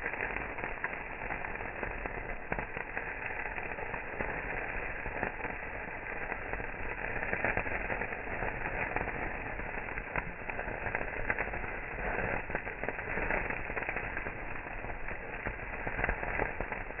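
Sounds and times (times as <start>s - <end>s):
meat sizzling over wood fire: 0.0s - 17.0s.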